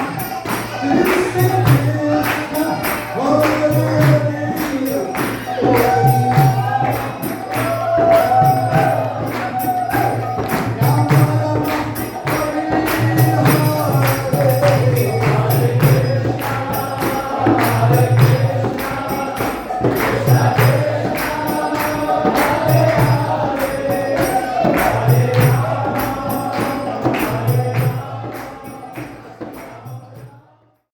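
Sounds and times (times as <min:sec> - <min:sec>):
jingling percussion: 0:00.0 - 0:30.8
voices singing a devotional chant: 0:00.0 - 0:30.9.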